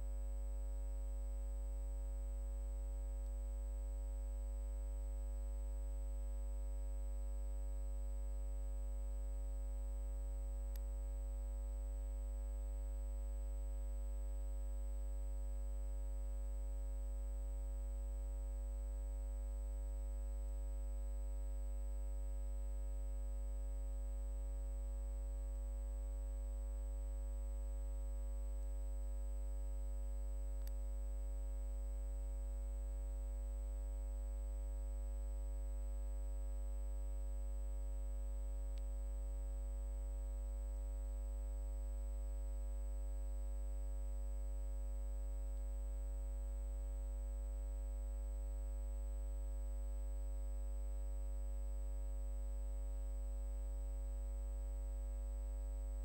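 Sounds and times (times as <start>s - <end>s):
electrical hum and buzz: 0.0s - 56.0s.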